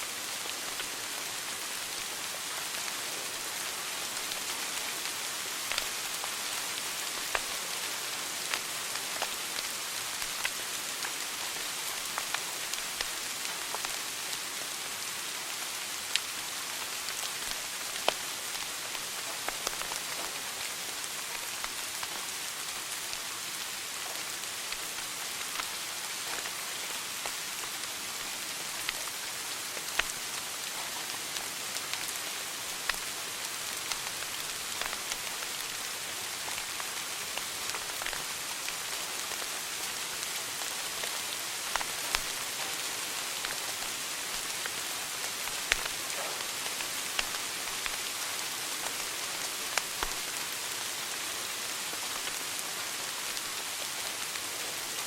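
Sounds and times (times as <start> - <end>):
fire crackling in a fireplace: 0.1 - 55.0.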